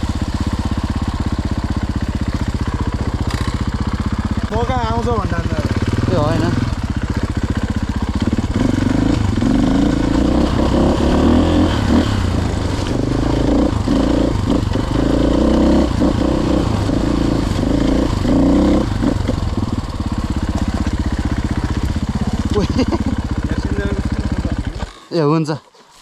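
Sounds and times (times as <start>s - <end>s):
dirt bike engine revving: 0.0s - 25.1s.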